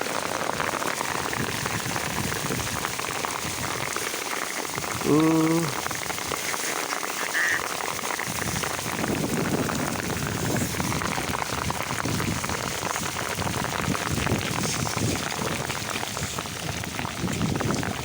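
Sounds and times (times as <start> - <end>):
heavy rain falling: 0.0 - 18.0
raindrops drumming on cardboard: 0.0 - 18.0.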